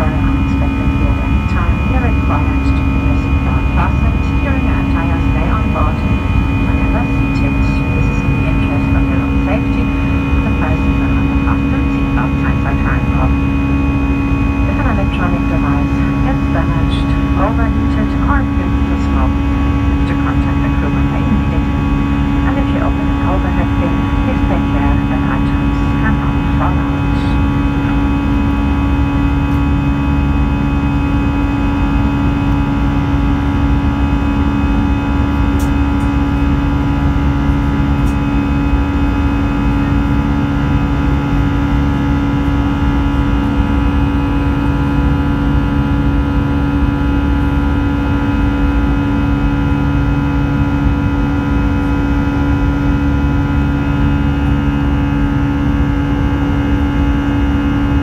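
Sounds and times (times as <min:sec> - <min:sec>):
high fan tones: 0:00.0 - 0:58.0
jet engine drone: 0:00.0 - 0:58.0.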